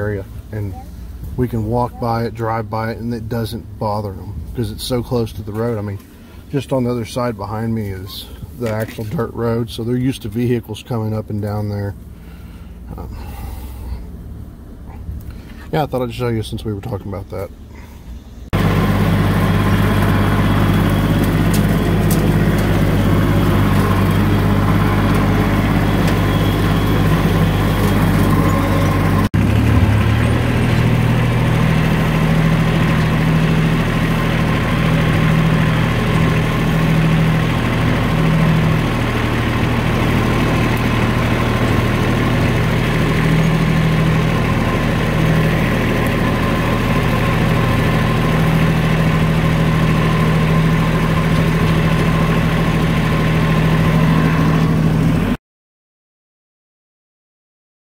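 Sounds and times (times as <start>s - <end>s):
vehicle engine running: 0.0s - 55.4s.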